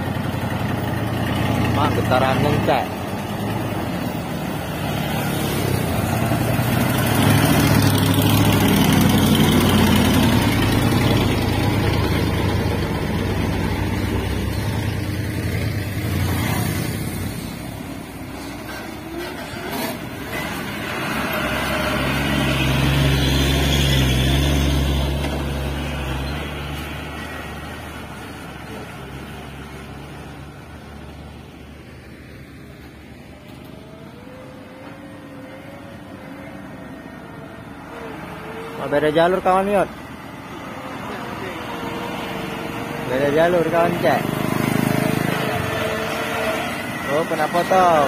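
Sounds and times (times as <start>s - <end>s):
diesel trucks driving past: 0.0s - 48.0s.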